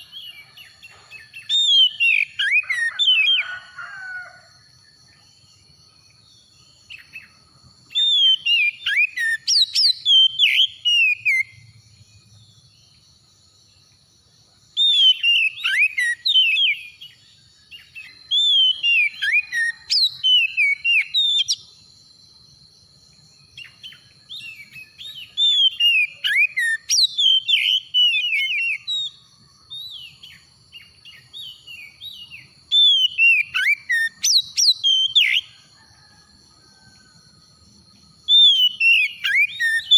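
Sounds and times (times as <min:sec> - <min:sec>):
bird singing whistled notes: 0:00.0 - 0:03.5, 0:05.5 - 0:13.1, 0:14.8 - 0:21.8, 0:23.4 - 0:36.1, 0:38.2 - 0:39.9.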